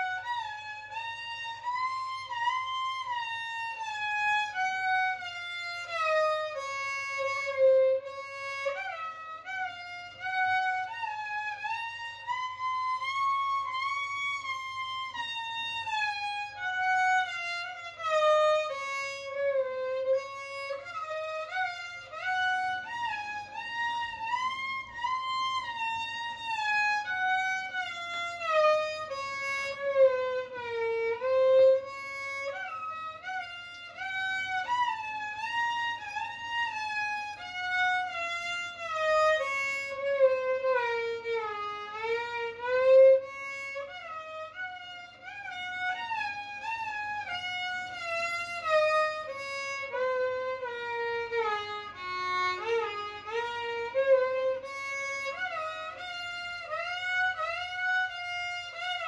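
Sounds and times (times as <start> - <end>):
solo violin melody: 0.0 - 59.0.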